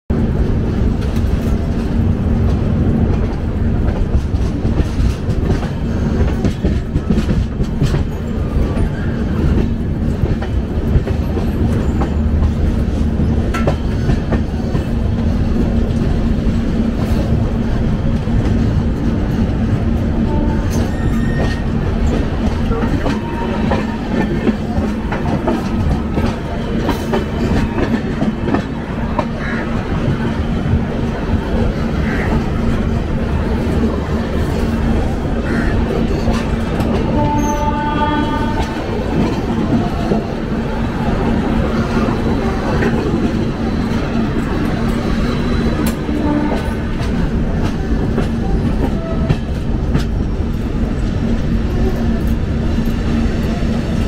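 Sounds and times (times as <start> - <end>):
train wheels rumbling on rail: 0.1 - 54.0.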